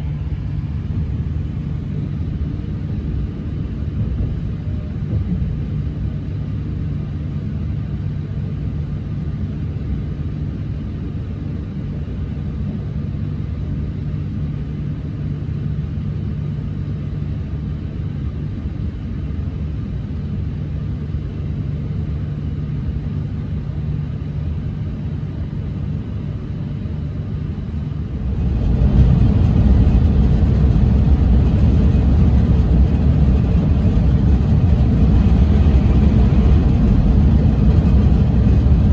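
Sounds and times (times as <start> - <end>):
faint hum: 0.0 - 8.4, 9.4 - 38.9
train running with low rumble: 0.0 - 38.9.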